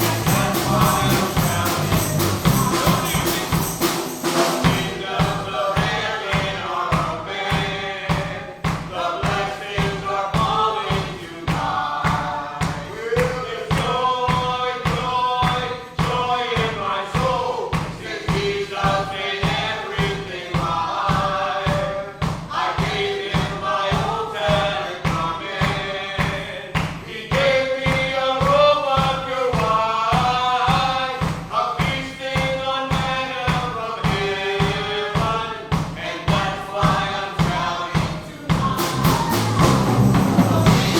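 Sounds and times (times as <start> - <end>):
choir singing gospel: 0.0 - 40.9
drums and tambourine beat: 0.0 - 40.9.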